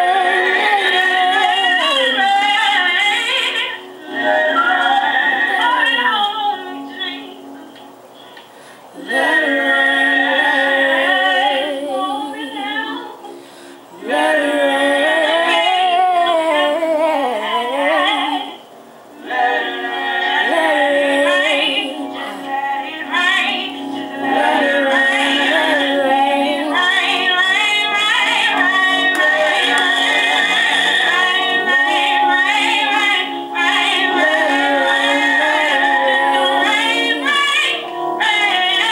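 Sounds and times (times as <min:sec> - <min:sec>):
woman singing gospel: 0:00.0 - 0:07.8, 0:09.0 - 0:18.6, 0:19.2 - 0:38.9.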